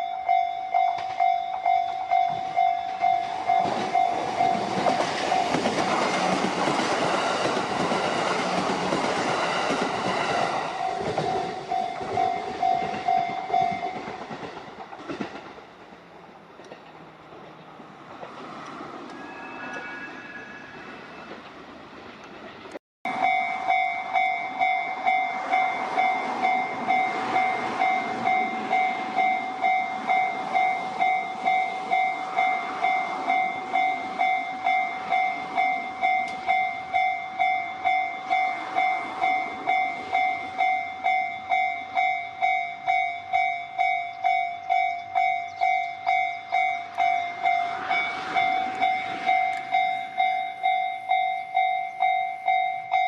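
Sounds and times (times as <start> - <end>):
level-crossing warning bell: 0.0 - 14.4, 23.1 - 53.0
train wheels rumbling on rails: 0.0 - 53.0.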